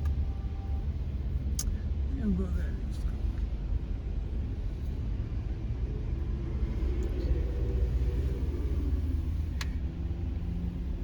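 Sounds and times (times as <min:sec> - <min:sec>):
car rumbling on road: 0:00.0 - 0:11.0.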